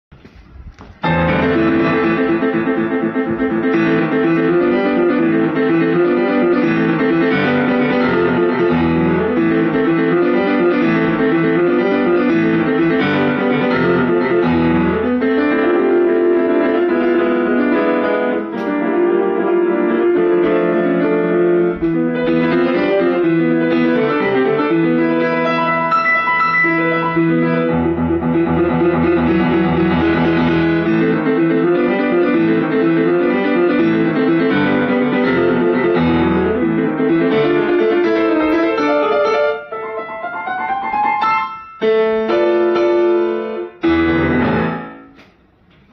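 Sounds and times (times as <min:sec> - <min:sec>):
solo piano playing: 0:01.0 - 0:45.6.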